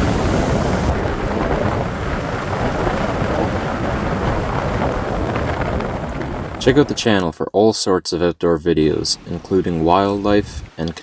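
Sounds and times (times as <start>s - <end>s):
waterfall roaring: 0.0s - 6.9s, 9.0s - 11.0s.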